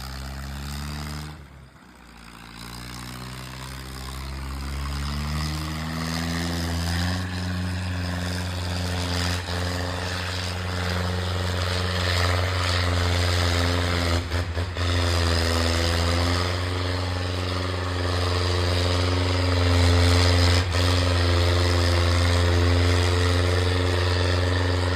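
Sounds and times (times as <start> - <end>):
diesel tractor engine running: 0.0 - 24.9.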